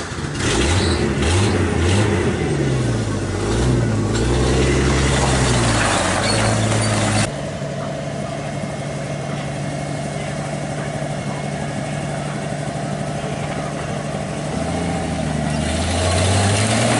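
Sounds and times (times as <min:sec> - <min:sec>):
truck engine revving: 0:00.0 - 0:16.9.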